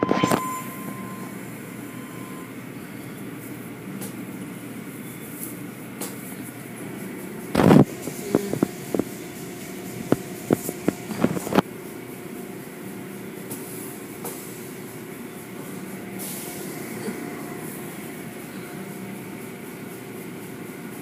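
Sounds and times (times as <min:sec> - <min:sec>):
car wash machinery hum: 0:00.0 - 0:21.0.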